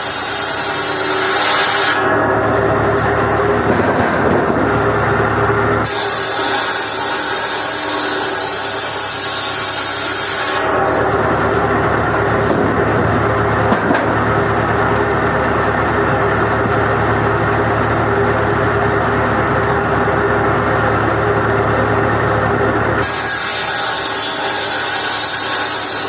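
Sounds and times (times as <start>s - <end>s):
tractor engine running: 2.0s - 23.1s.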